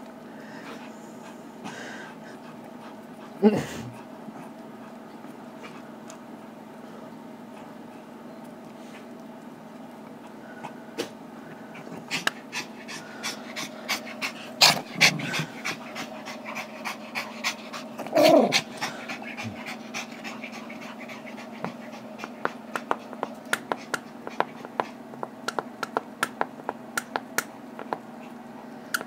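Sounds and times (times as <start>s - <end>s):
small dogs panting: 0.5s - 9.2s, 10.1s - 25.1s.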